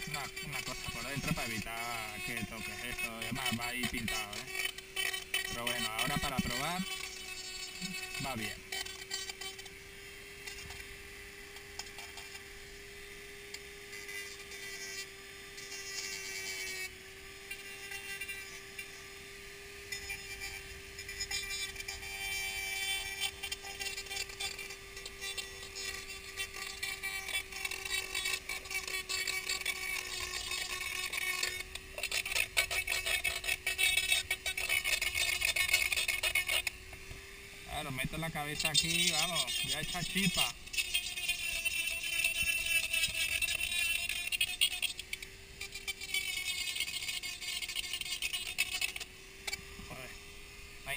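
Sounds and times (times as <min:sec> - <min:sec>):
rotary tool whine: 0:00.0 - 0:50.9
scratchy sanding hiss: 0:00.0 - 0:50.9.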